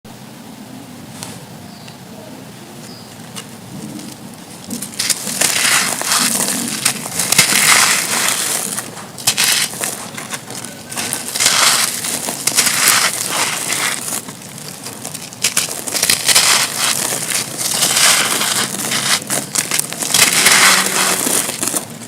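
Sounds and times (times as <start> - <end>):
concrete chunks crunching: 3.4 - 22.0.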